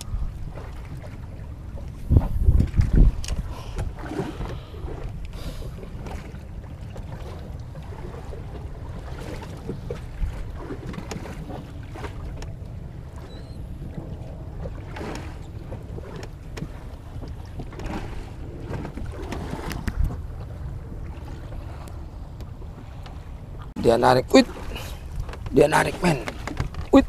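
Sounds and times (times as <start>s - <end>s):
water slapping boat hull: 0.0s - 27.0s
wind rumble on microphone: 0.0s - 27.0s.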